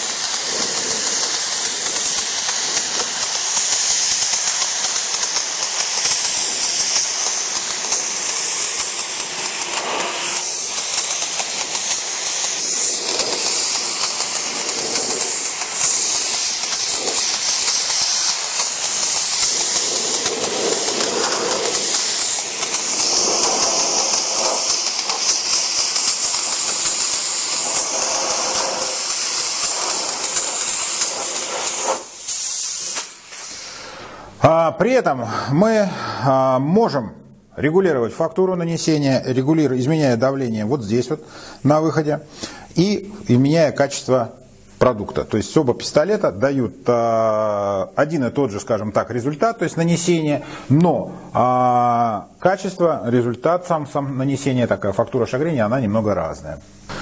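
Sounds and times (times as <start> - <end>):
spray gun hissing: 0.0 - 36.3, 38.8 - 57.0.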